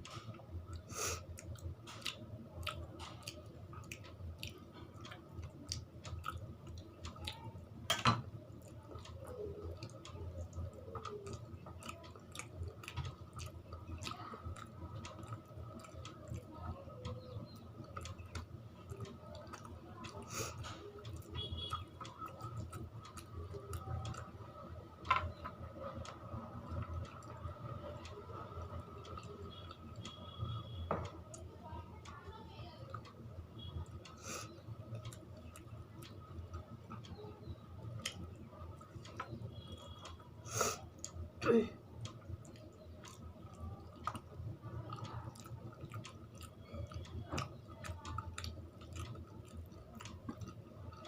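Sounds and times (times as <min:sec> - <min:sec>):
person chewing and smacking: 0:00.1 - 0:24.4, 0:32.9 - 0:41.4, 0:42.0 - 0:51.0.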